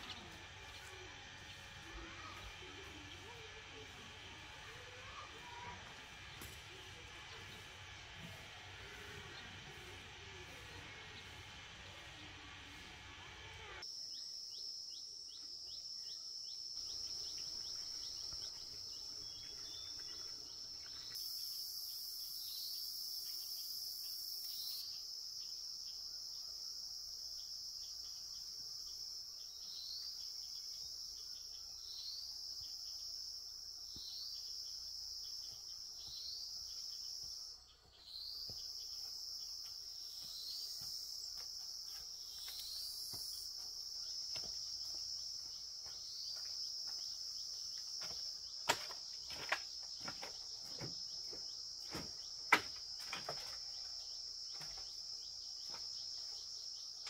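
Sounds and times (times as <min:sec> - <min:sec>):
insects droning: 0:00.0 - 0:12.8, 0:13.6 - 0:57.0.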